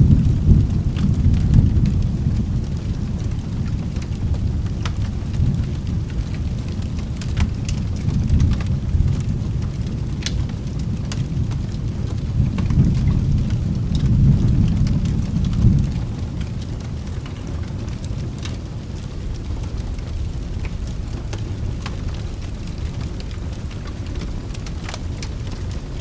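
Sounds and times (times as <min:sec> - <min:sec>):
rolling thunder: 0:00.0 - 0:26.0
steady rain: 0:00.0 - 0:26.0.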